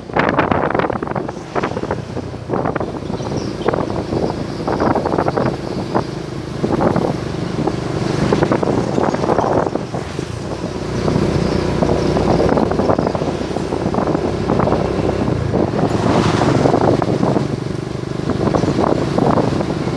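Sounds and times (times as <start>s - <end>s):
vehicle running hum: 0.0s - 19.9s
wind buffeting microphone: 0.0s - 19.9s.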